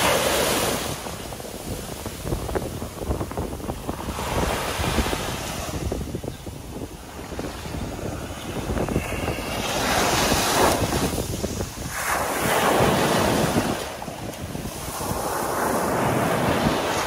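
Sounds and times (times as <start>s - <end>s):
small waves breaking on beach: 0.0s - 17.0s
wind rumble on microphone: 0.0s - 17.0s.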